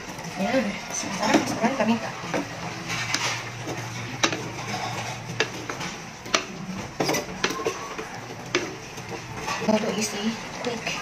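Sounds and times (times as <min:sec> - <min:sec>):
wooden spatula stirring meat in pot: 0:00.0 - 0:11.0.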